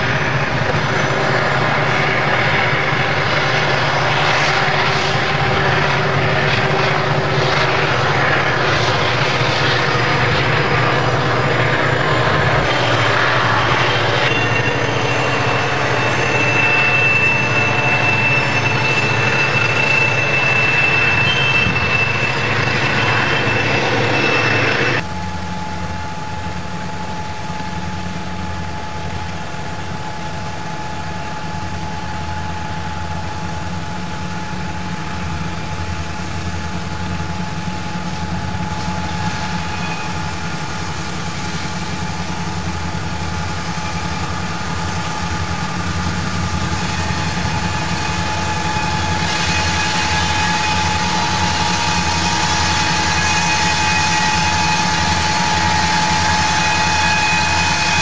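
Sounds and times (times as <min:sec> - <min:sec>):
diesel locomotive engine drone: 0:00.0 - 0:58.0
locomotive whine: 0:00.0 - 0:58.0
train wheels squealing: 0:00.0 - 0:58.0.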